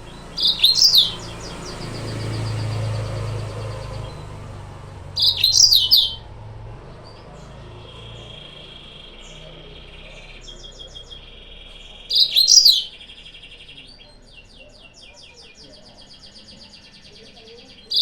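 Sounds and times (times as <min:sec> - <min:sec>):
canary chirping: 0:00.0 - 0:18.0.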